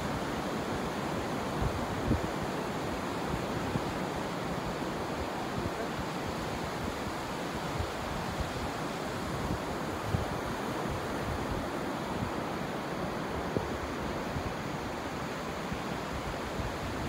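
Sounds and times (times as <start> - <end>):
surf washing on a beach: 0.0 - 17.0.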